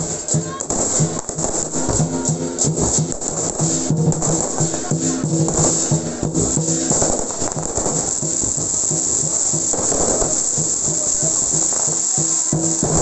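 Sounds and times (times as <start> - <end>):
fireworks crackling and hissing: 0.0 - 13.0
music: 0.0 - 13.0.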